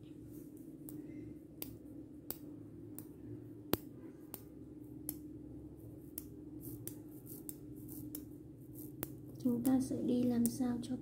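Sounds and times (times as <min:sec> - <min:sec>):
magnetic balls clicking: 0:00.8 - 0:11.0.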